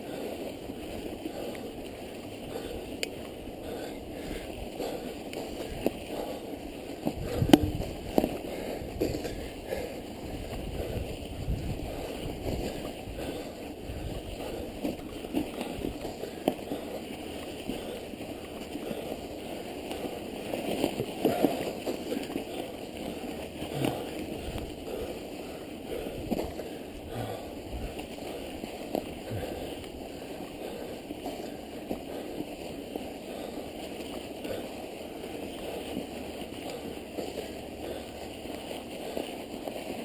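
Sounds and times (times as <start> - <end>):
bike tyres and drivetrain on snow: 0.0 - 40.0.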